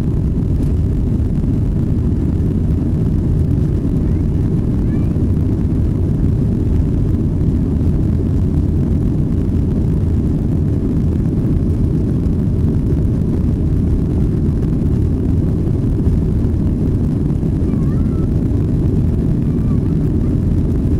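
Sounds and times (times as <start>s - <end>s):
airplane cabin engine rumble: 0.0s - 20.9s
rushing airflow: 0.0s - 20.9s.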